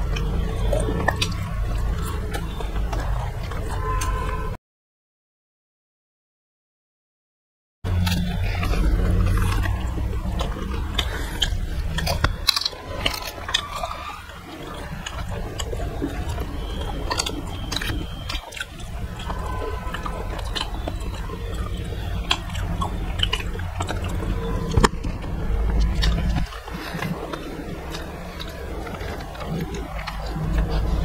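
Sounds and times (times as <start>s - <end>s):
sharp crunchy clicks: 0.0s - 4.5s, 7.9s - 31.0s
people chewing and biting food: 0.0s - 4.6s, 7.9s - 31.0s
steady low hum: 0.0s - 4.6s, 7.9s - 31.0s.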